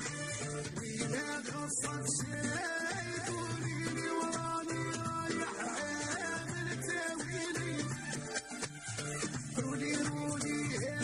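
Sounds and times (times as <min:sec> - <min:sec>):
plucked strings music: 0:00.0 - 0:11.0.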